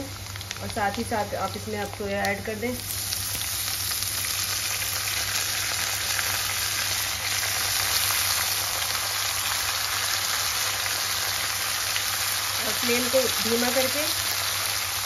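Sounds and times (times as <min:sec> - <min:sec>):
food frying in oil: 0:00.0 - 0:15.0.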